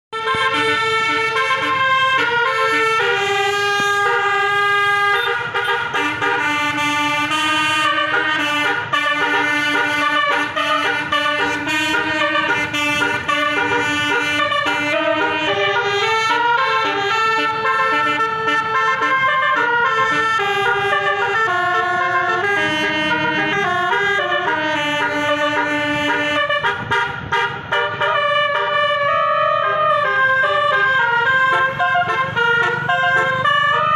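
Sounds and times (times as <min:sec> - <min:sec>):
bus musical horn melody: 0:00.1 - 0:33.9.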